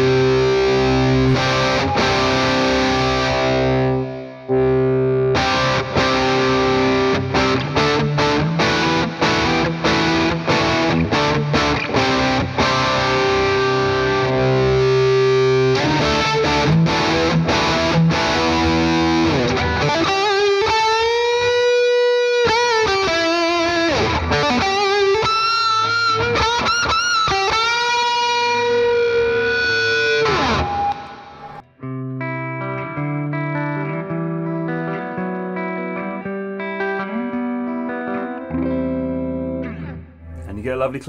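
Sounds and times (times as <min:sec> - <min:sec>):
overdriven electric guitar: 0:00.0 - 0:40.5.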